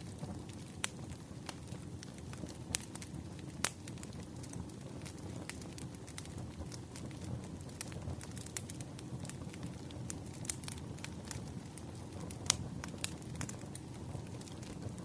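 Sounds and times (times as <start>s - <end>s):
low roar of flames: 0.0s - 15.0s
wood crackling and popping: 0.0s - 15.0s.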